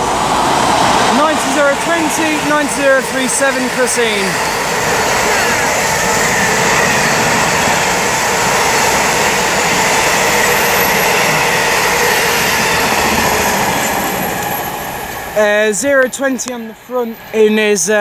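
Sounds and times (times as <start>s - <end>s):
train wheels rushing on rails: 0.0s - 18.0s.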